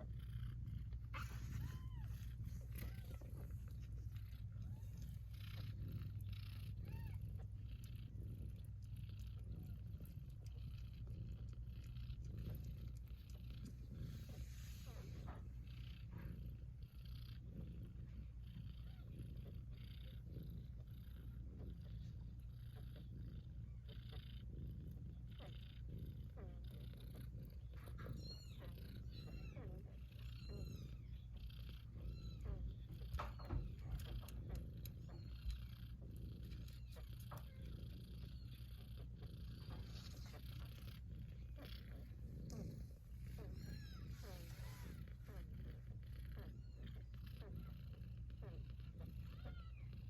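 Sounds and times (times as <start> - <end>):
cat purring: 0.0 - 50.0.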